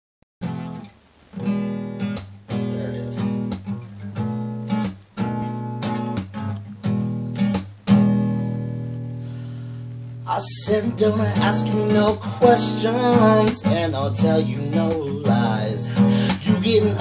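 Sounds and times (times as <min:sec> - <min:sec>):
guitar strumming chords: 0:00.4 - 0:17.0.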